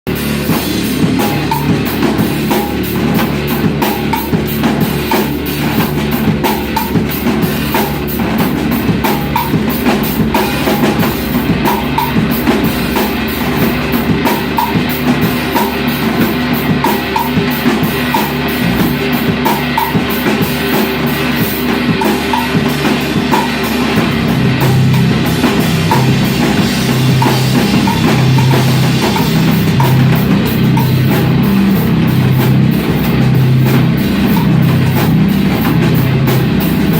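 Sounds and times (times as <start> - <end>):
bass guitar: 0.0 - 36.9
rock band playing live: 0.1 - 36.9.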